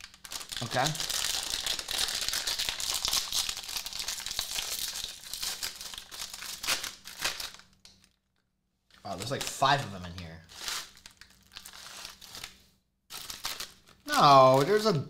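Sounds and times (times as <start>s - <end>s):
foil snack pouch crinkling: 0.0s - 8.2s, 9.0s - 14.8s.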